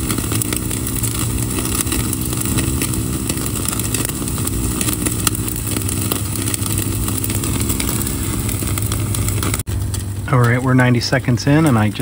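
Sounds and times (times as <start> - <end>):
gas burner roaring: 0.0 - 12.0
steak searing crackles and pops: 0.0 - 12.0.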